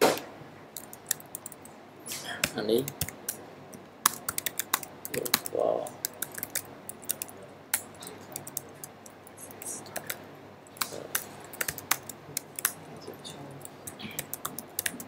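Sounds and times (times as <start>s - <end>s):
computer keyboard typing: 0.8s - 1.7s, 2.4s - 3.4s, 4.0s - 15.0s.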